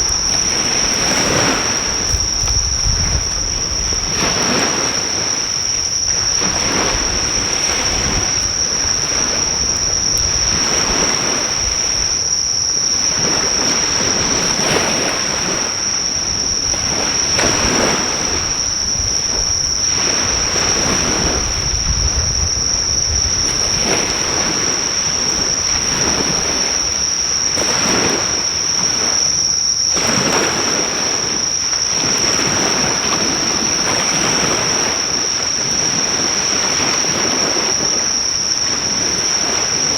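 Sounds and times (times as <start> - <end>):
high-pitched insect trill: 0.0 - 39.9
sea waves washing on shore: 0.0 - 39.9.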